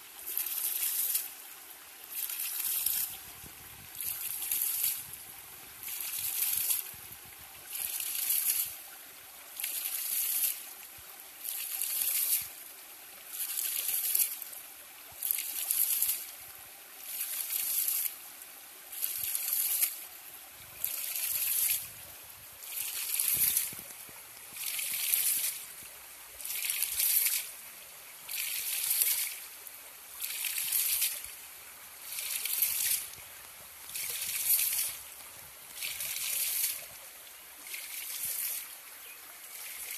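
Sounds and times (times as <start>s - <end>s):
water gushing from pump valve: 0.0s - 39.9s.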